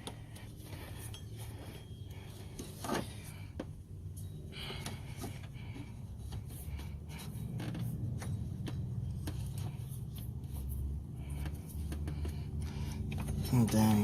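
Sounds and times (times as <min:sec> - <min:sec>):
low steady rumble: 0:00.0 - 0:14.0
rubber belt rubbing and scraping: 0:00.0 - 0:14.0.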